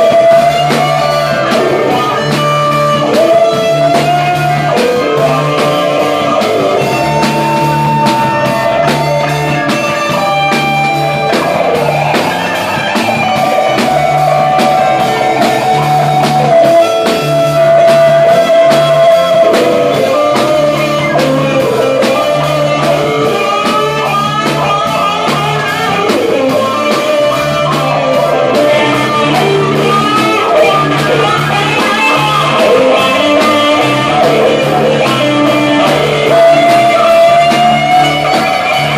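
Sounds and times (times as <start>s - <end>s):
bass line: 0.0s - 38.9s
drums: 0.0s - 38.9s
electric guitar lead: 0.0s - 38.9s.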